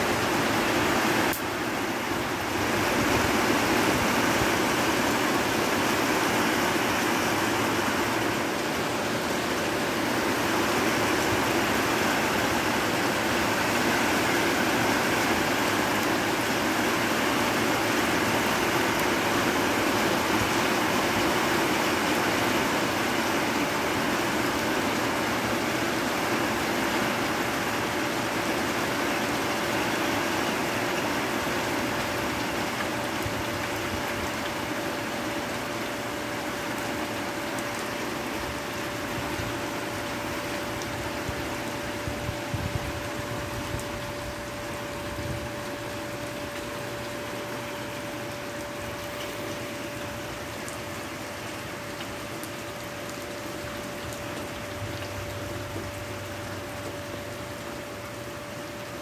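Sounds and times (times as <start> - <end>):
faint steady hum: 0.0 - 59.0
heavy rain rushing: 0.0 - 59.0.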